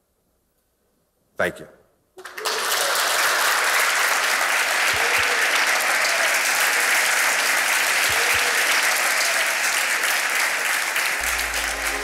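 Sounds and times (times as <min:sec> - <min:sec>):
audience applauding: 0:02.2 - 0:12.0.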